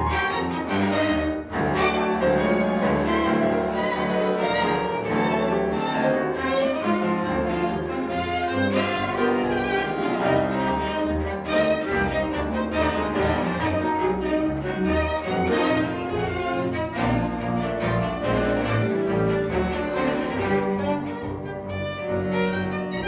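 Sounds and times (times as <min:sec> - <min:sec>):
cello: 0:00.0 - 0:23.0
violin: 0:00.0 - 0:23.0.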